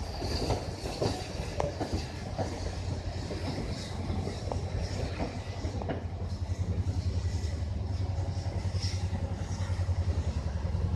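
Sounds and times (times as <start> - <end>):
train rumbling on track: 0.0 - 10.9.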